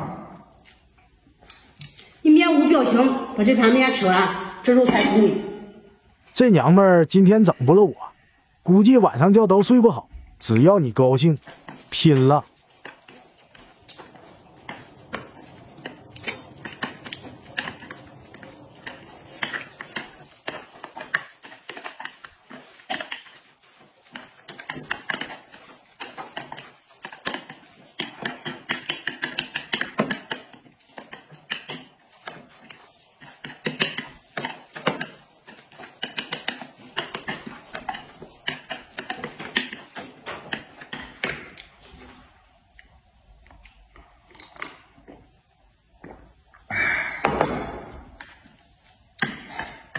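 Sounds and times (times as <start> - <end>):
people chewing and slurping noodles: 0.0 - 2.2, 2.8 - 49.9.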